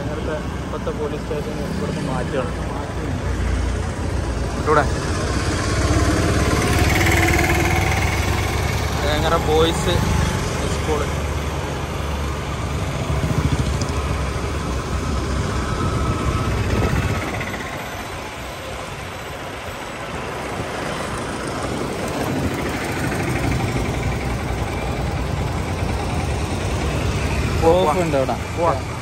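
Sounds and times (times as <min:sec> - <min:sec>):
motorbike engine and road rumble: 0:00.0 - 0:29.0.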